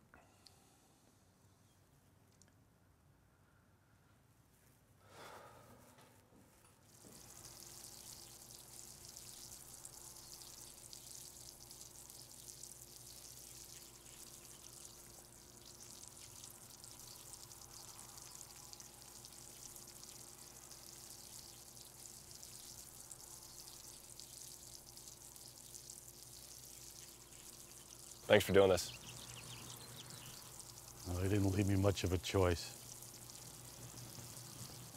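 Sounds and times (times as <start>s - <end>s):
high outdoor hiss: 6.8s - 34.9s.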